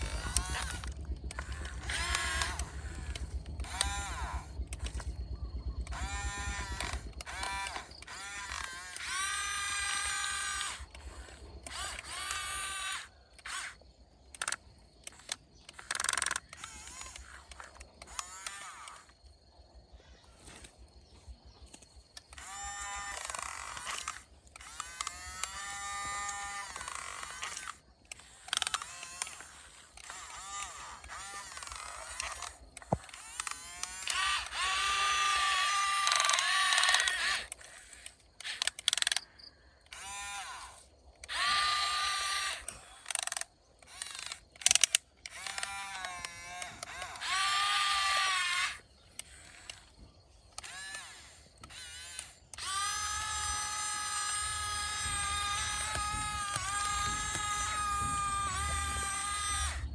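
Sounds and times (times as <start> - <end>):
sharp clicks: 0.0 - 19.3, 21.6 - 59.9
electric motors whining: 0.0 - 59.9.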